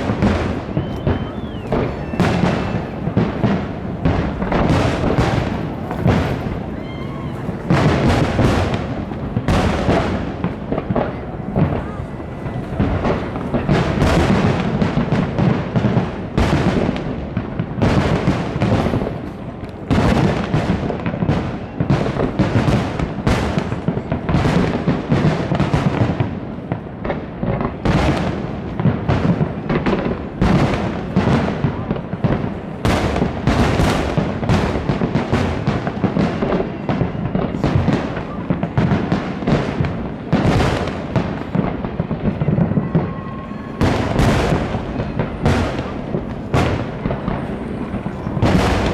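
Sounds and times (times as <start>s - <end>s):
fireworks bursting with sharp bangs: 0.0s - 48.9s.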